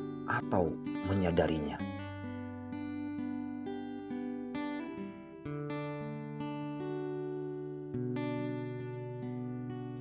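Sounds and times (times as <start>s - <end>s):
slow plucked melody: 0.0s - 10.0s.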